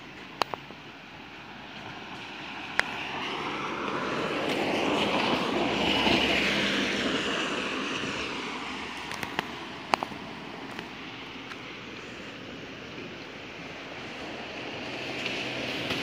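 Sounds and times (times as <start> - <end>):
car passing on wet road: 0.0 - 16.0.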